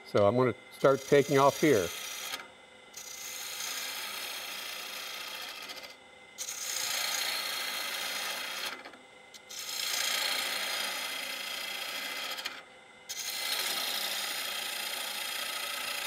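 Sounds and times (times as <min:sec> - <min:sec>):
lathe gouge shaving wood: 0:00.8 - 0:02.4, 0:03.0 - 0:08.8, 0:09.4 - 0:12.5, 0:13.1 - 0:16.0.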